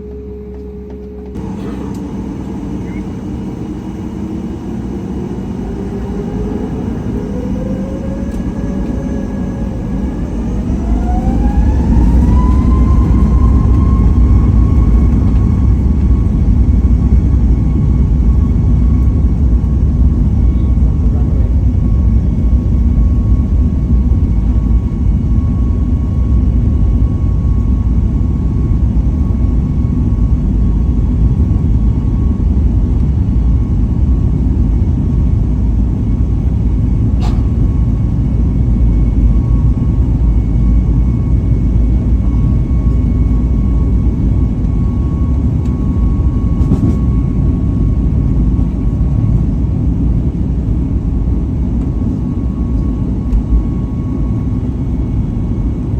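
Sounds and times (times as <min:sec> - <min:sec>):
faint engine whine: 0:00.0 - 0:55.9
jet engine rumble in cabin: 0:00.0 - 0:55.9.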